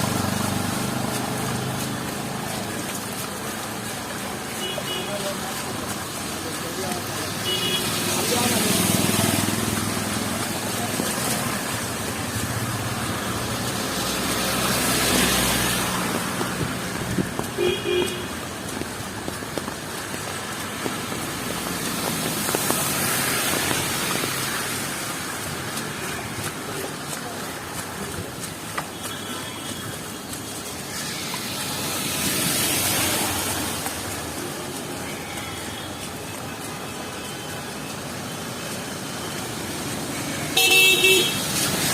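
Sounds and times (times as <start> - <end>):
heavy rain: 0.0 - 41.9
tyres on wet road: 0.0 - 41.9.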